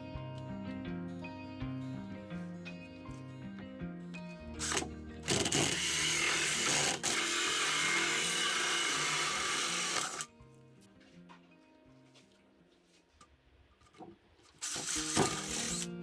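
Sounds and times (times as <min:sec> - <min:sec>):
background music with melody: 0:00.0 - 0:13.3, 0:14.1 - 0:16.0.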